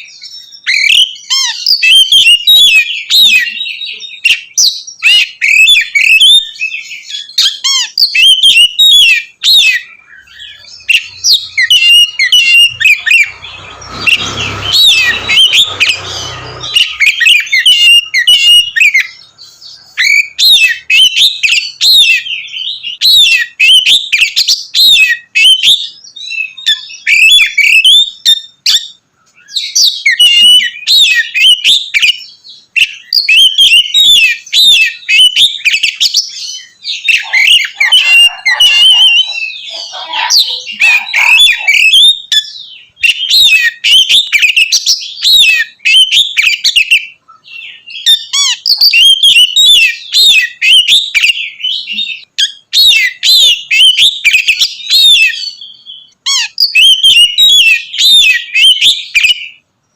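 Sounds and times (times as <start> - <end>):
bird singing whistles and chirps: 0.0 - 59.6.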